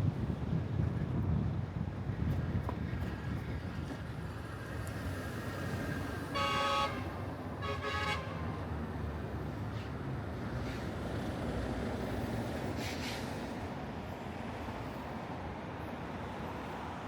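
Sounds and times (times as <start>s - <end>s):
road and wind rumble: 0.0s - 17.0s.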